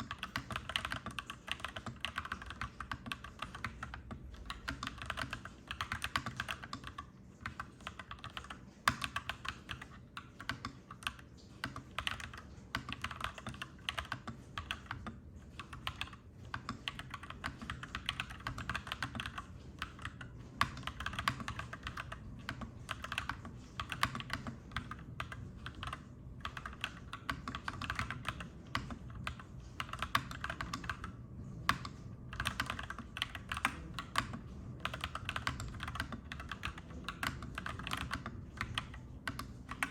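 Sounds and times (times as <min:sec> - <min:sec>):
low background hum: 0:00.0 - 0:39.9
mechanical keyboard typing: 0:00.0 - 0:39.9.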